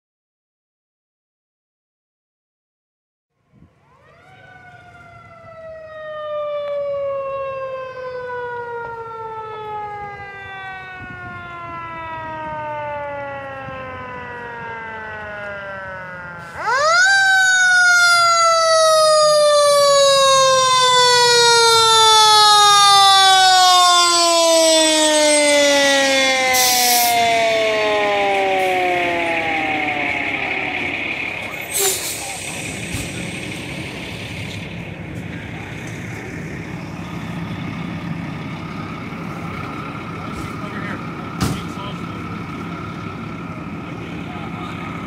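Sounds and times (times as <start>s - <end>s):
fire engine siren: 3.4s - 45.0s.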